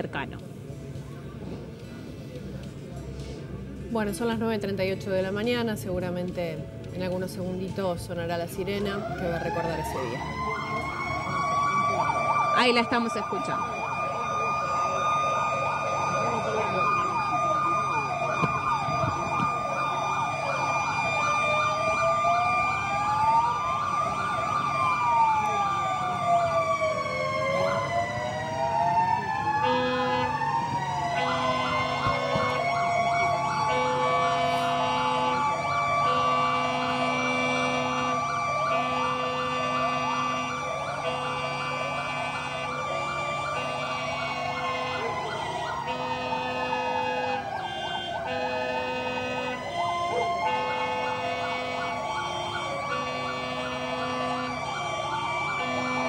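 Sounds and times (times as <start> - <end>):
sirens wailing: 8.2 - 56.0
low siren tone: 8.8 - 56.0.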